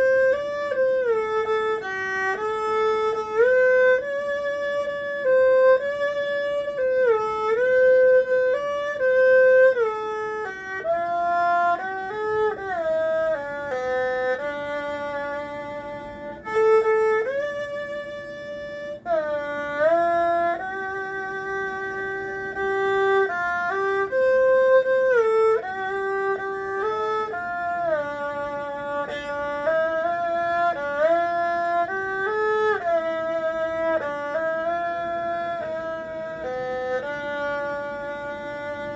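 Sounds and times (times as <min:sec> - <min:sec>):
erhu melody: 0:00.0 - 0:38.9.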